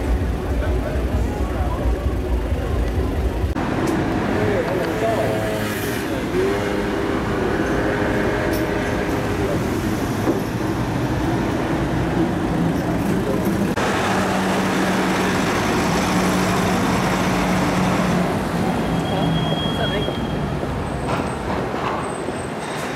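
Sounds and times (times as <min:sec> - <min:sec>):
diesel trucks running slowly: 0:00.0 - 0:22.9
street noise: 0:00.0 - 0:22.9.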